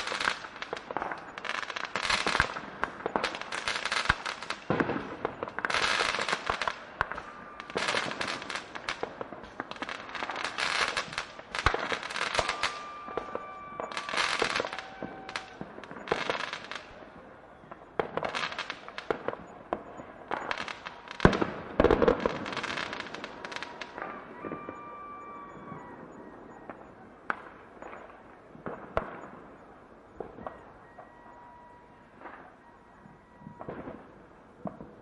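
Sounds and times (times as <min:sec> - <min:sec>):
fireworks sharp bangs: 0:00.0 - 0:31.1, 0:33.4 - 0:35.0
fireworks crackling bursts: 0:00.0 - 0:32.8
faint whistling fireworks: 0:00.0 - 0:35.0.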